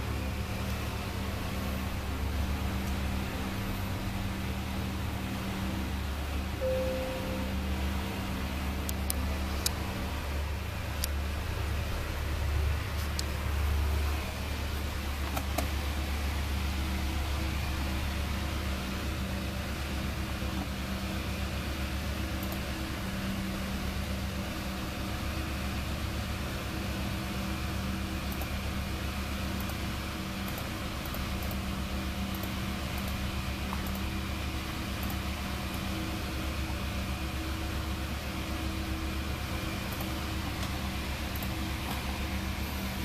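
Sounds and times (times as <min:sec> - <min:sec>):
computer fans whirring: 0:00.0 - 0:43.0
low electrical hum: 0:00.0 - 0:43.0.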